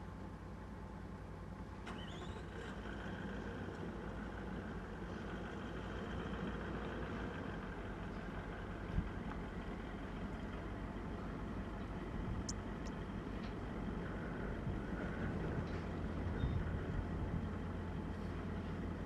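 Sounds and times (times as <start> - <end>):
vehicle engine idling: 0.1 - 19.0.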